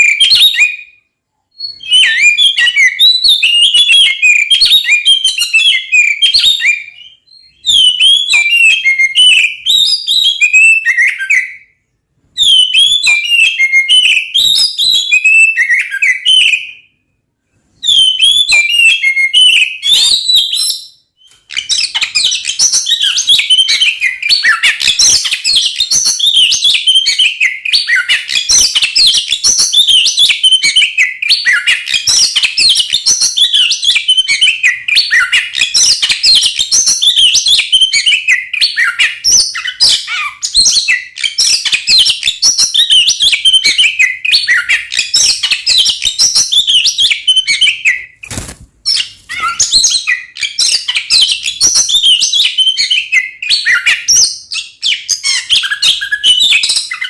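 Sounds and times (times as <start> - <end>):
bird singing chirps and whistles: 0.0 - 17.0, 17.8 - 57.0.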